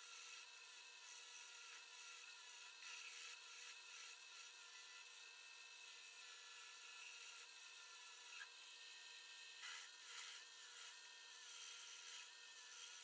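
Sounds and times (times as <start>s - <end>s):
turning tool cutting wood: 0.0s - 5.0s, 6.1s - 8.5s, 9.6s - 13.0s
wood lathe whine: 0.0s - 13.0s.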